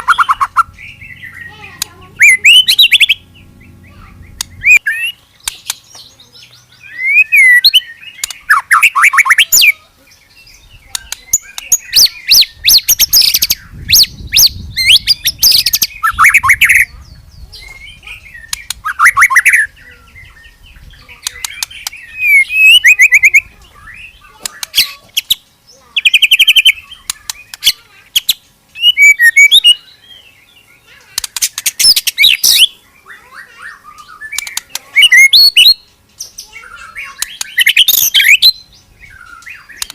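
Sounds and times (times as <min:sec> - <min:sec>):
songbird singing whistles and rattles: 0:00.0 - 0:09.8, 0:10.5 - 0:25.4, 0:26.0 - 0:39.9.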